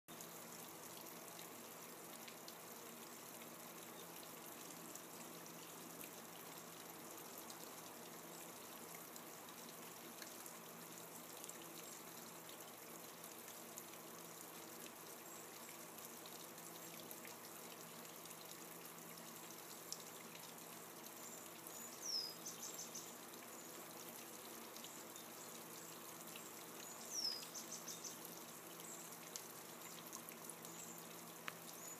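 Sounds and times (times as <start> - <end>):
fountain water running: 0.1 - 31.9.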